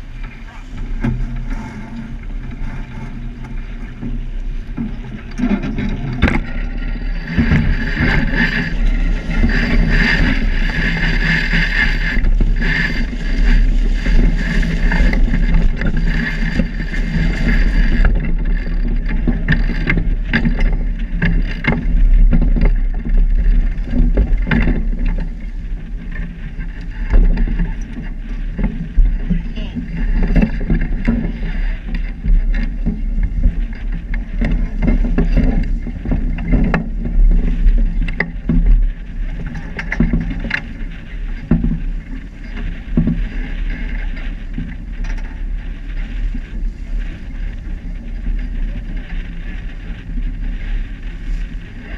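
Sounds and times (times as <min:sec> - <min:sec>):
water rushing along hull: 0:00.0 - 0:51.9
wind buffeting microphone: 0:00.0 - 0:51.9.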